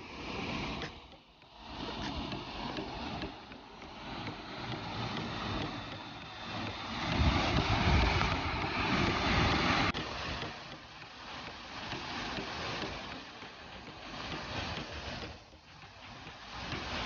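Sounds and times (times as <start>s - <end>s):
rushing water: 1.5s - 17.0s
wind buffeting microphone: 1.6s - 17.0s.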